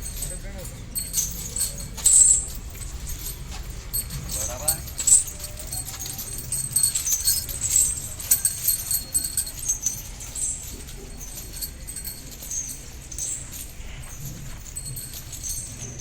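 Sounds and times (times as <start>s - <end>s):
chains and bells jingling: 0.0s - 16.0s.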